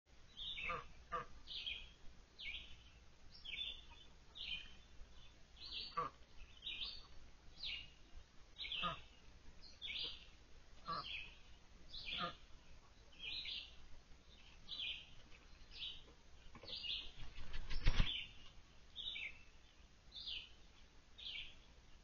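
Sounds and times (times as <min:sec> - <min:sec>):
bird chirping: 0:00.2 - 0:22.0.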